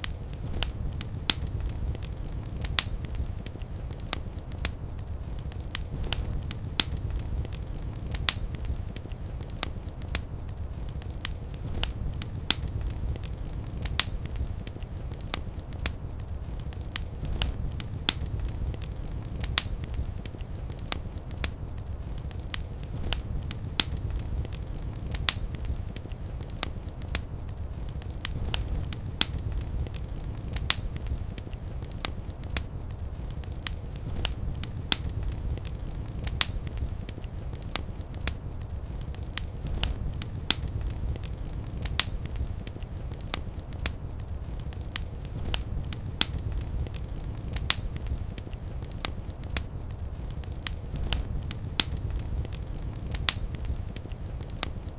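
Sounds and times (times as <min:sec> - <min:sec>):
rumble of flames: 0:00.0 - 0:54.9
wood fire crackling and popping: 0:00.0 - 0:54.9.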